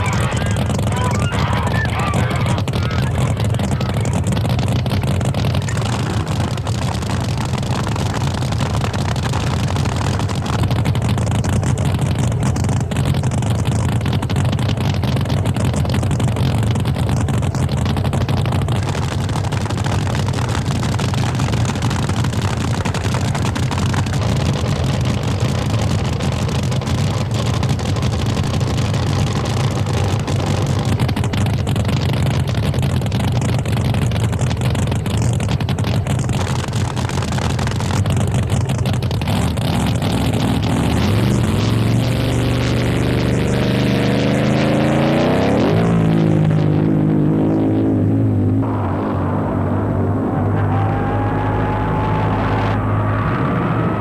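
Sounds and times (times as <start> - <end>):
loud boat engine running: 0.0 - 54.0.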